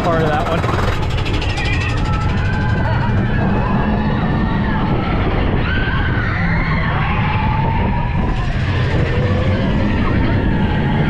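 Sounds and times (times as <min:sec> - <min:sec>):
roller coaster rumbling on track: 0:00.0 - 0:11.0
wheels squealing on curves: 0:00.0 - 0:11.0.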